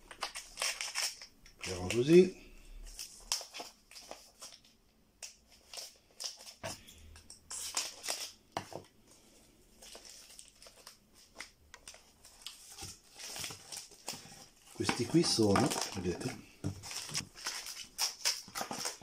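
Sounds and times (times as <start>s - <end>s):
plastic crinkling: 0.0s - 19.0s.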